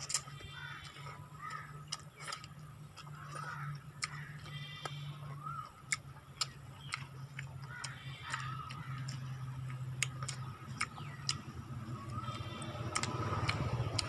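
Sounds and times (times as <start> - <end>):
lip smacks and clicks eating: 0.0 - 14.0
steady low hum: 0.0 - 14.0.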